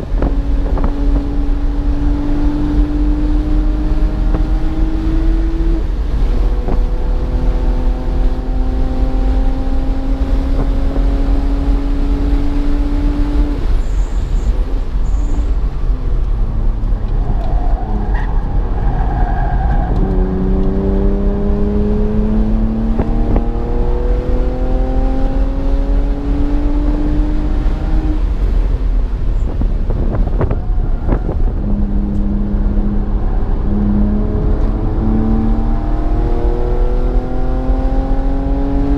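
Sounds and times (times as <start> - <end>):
car engine pulling hard: 0.0 - 38.9.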